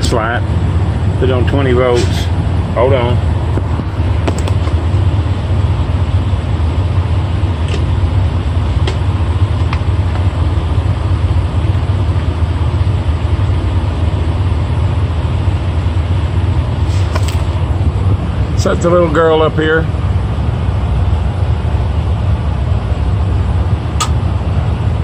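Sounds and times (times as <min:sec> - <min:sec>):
large engine idling: 0:00.0 - 0:25.0.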